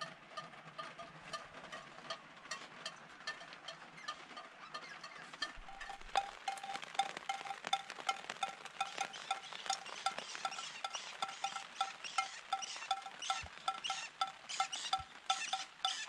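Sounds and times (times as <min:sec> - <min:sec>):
raindrops ticking: 0:00.0 - 0:16.0.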